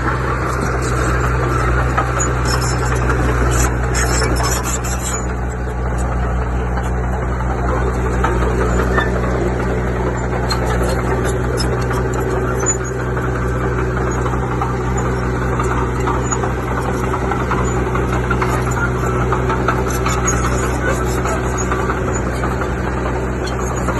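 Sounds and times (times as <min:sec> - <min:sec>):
diesel machine engine running: 0:00.0 - 0:23.9.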